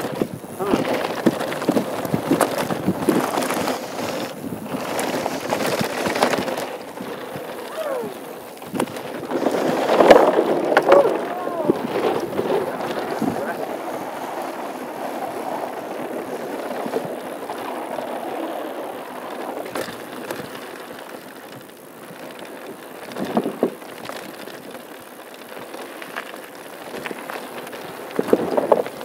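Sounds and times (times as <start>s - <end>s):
bike rattling: 0.0s - 29.0s
bike tyres on gravel: 0.0s - 29.0s
bike tyres rolling on boardwalk: 0.0s - 29.0s
sharp clacks over bumps: 0.0s - 29.0s.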